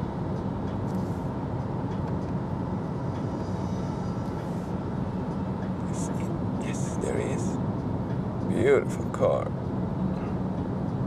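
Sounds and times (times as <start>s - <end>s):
car road and wind noise: 0.0s - 11.0s.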